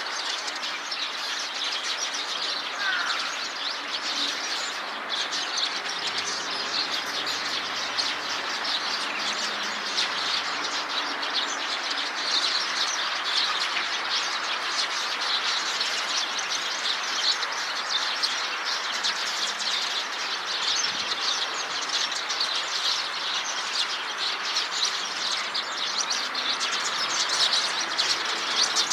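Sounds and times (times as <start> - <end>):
sparrows chirping: 0.0 - 28.9.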